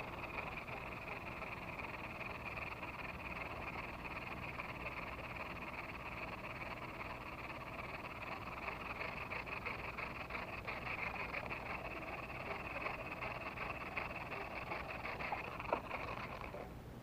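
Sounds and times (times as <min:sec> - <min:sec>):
frogs calling: 0:00.0 - 0:16.6.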